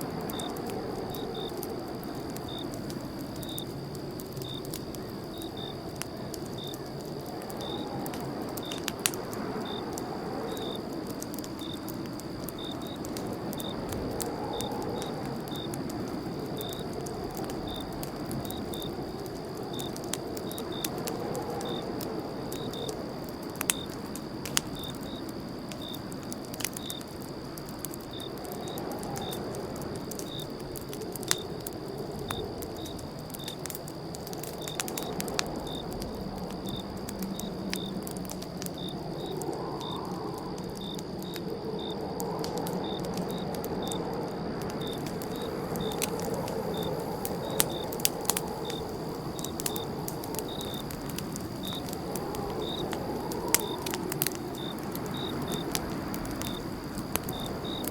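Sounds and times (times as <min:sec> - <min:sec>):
campfire crackling and popping: 0:00.0 - 0:57.9
cricket chirping: 0:00.0 - 0:57.9.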